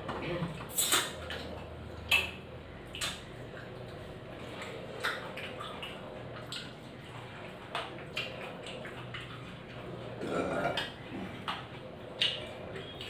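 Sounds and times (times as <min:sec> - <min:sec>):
wet eating smacks: 0:00.6 - 0:13.0.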